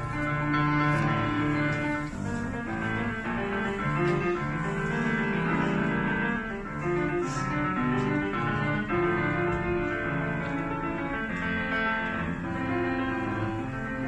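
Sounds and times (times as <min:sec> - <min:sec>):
classical piano music: 0:00.0 - 0:14.0.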